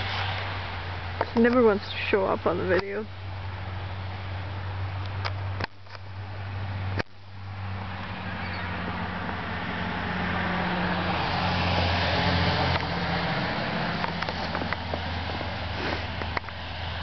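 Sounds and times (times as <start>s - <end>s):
car tyres on snowy road: 0.0s - 17.0s.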